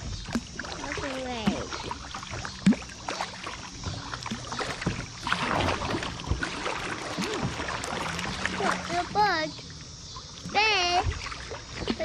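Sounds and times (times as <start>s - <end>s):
moving water washing around boat: 0.0s - 12.0s
paddle strokes through water: 0.0s - 12.0s
water splashing: 0.0s - 12.0s.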